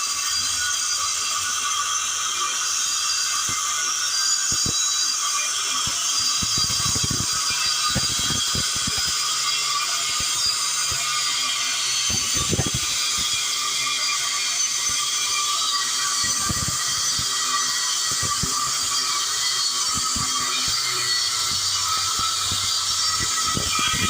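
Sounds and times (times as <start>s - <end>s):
power tool cutting steel: 0.0s - 24.0s.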